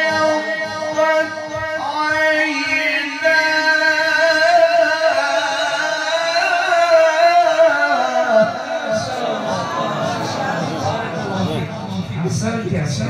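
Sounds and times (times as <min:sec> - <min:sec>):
man reciting melodically over a pa: 0:00.0 - 0:13.0.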